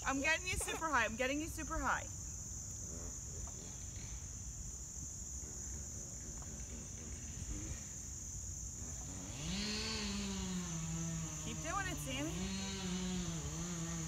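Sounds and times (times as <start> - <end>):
insect chorus drone: 0.0 - 14.0.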